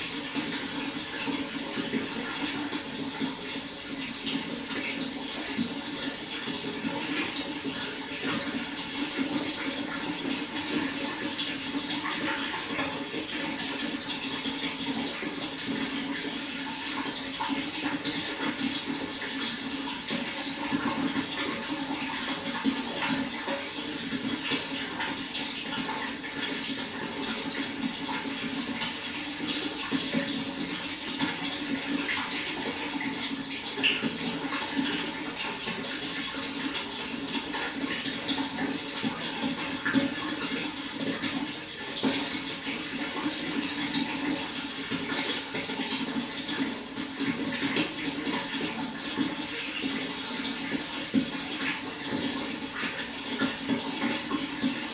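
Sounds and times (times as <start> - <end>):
water flowing with splashes: 0.0 - 54.9.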